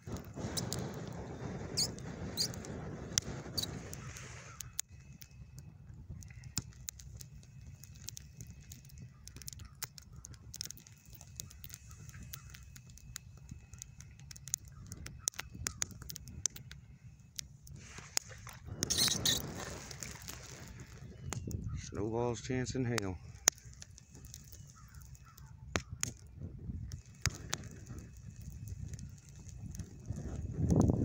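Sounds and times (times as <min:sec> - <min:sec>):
open fire crackling and popping: 0:00.0 - 0:31.0.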